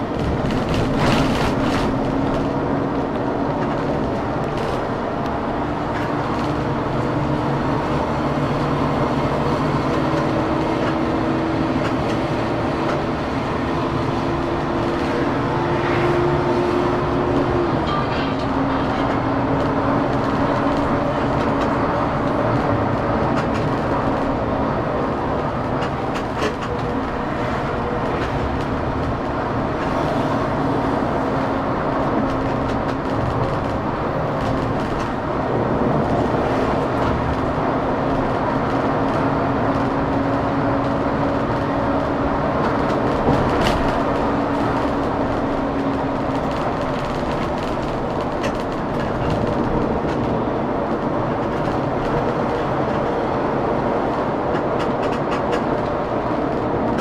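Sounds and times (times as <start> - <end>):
coach road and engine rumble: 0.0 - 57.0.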